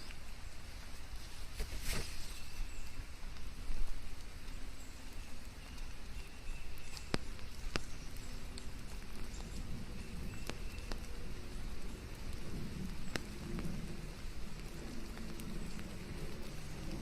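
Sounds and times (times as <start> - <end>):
rain on leaves: 0.0 - 17.0.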